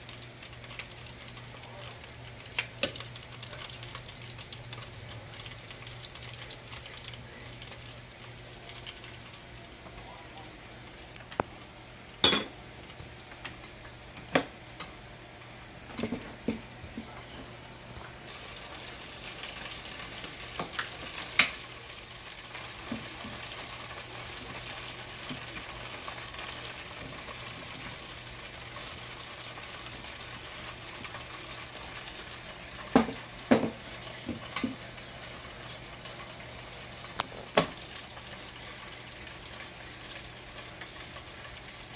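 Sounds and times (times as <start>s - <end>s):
chicken sizzling in deep fryer: 0.0s - 41.9s.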